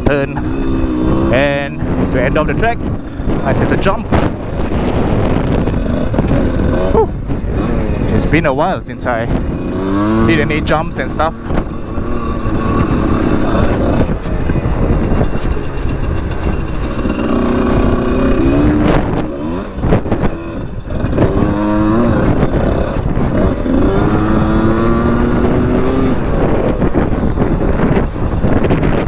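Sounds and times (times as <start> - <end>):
dirt bike engine revving: 0.0 - 29.0
wind buffeting microphone: 0.0 - 29.0.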